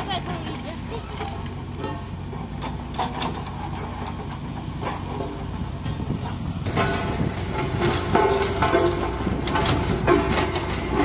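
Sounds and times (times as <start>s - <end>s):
bucket clanking and scraping: 0.0s - 11.0s
diesel engine running: 0.0s - 11.0s.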